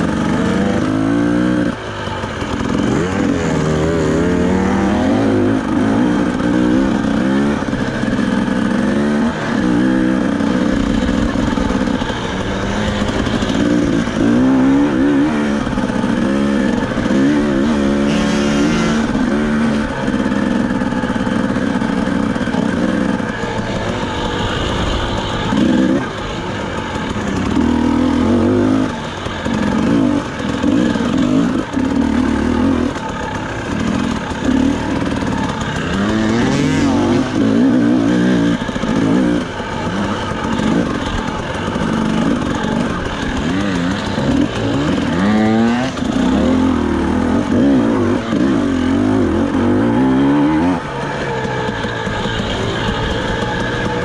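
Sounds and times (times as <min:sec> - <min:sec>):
quadcopter motors buzzing: 0:00.0 - 0:49.8, 0:50.6 - 0:54.0.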